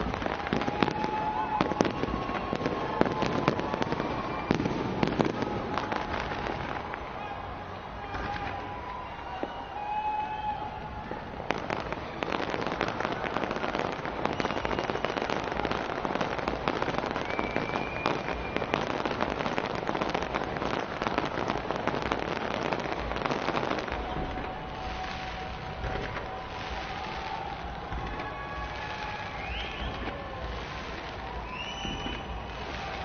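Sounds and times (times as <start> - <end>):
fireworks crackling and banging: 0.0 - 33.0.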